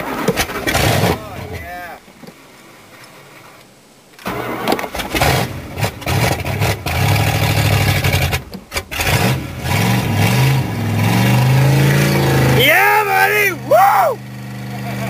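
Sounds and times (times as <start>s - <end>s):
truck engine starting and revving: 0.0s - 1.6s, 4.2s - 15.0s.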